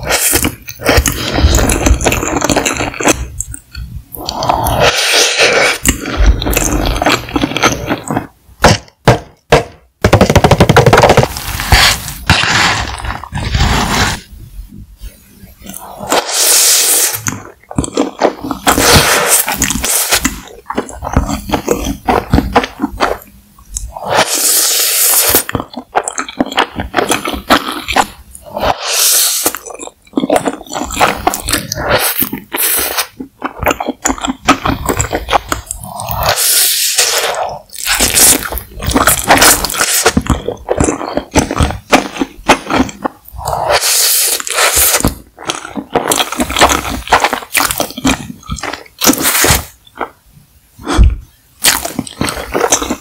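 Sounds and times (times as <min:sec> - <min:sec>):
noodles slurped: 0:00.0 - 0:08.3, 0:10.8 - 0:14.3, 0:15.4 - 0:50.2, 0:50.8 - 0:53.0
wet chewing: 0:00.0 - 0:08.8, 0:15.5 - 0:53.0.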